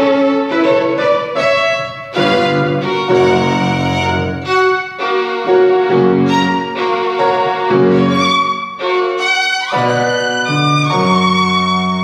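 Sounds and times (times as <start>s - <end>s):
grand piano accompaniment: 0.0s - 12.0s
violin bowed melody: 0.0s - 12.0s.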